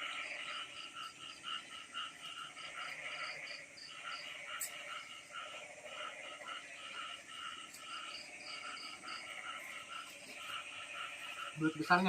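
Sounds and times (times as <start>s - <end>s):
frogs calling in chorus: 0.0s - 12.0s.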